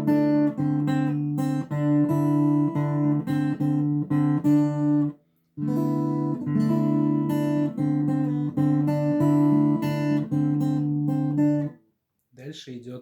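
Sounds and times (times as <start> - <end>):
acoustic guitar picking: 0.0 - 11.8.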